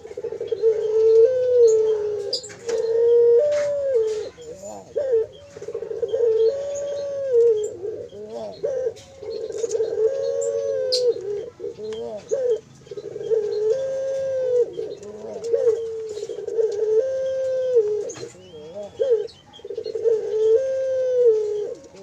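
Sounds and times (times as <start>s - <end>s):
dove chick calling: 0.0s - 22.0s.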